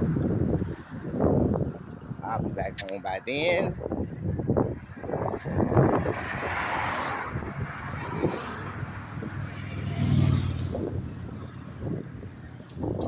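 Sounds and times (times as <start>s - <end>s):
cars passing on a road: 0.0s - 13.0s.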